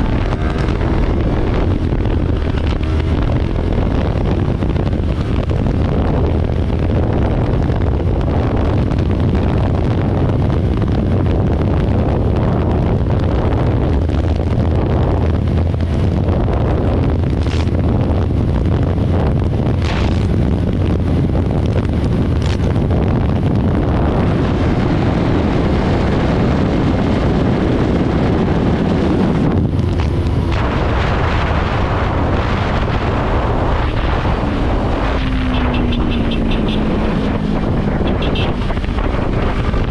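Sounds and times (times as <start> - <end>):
motorcycle engine drone: 0.0 - 39.9
wind buffeting on microphone: 0.0 - 39.9.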